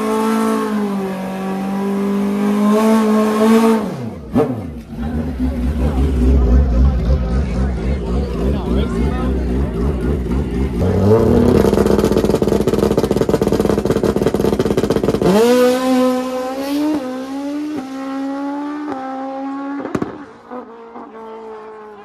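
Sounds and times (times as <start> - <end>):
motorcycle engine revving and upshifting: 0.0 - 22.0.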